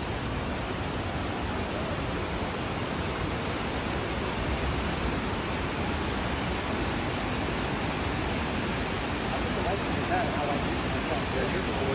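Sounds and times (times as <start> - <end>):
waterfall cascades rushing: 0.0 - 11.9.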